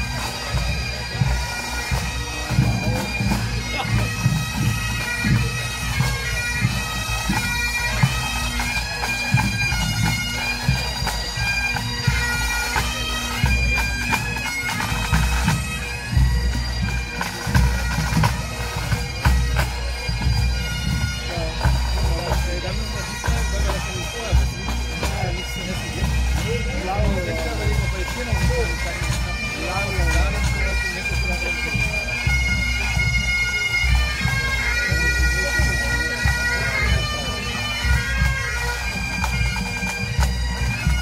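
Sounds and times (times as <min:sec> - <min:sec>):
bagpipes playing melody: 0:00.0 - 0:41.0.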